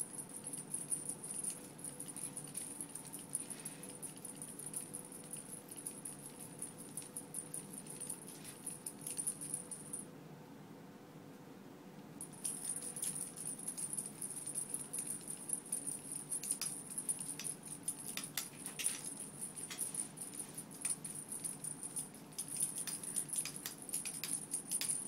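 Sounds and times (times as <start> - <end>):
small bell jingling: 0.0 - 10.0, 12.2 - 25.0.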